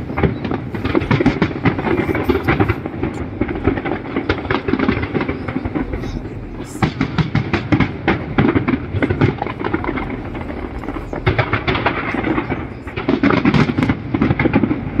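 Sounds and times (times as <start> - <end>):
continuous rumble: 0.0 - 15.0
fireworks bangs and crackling: 0.0 - 15.0.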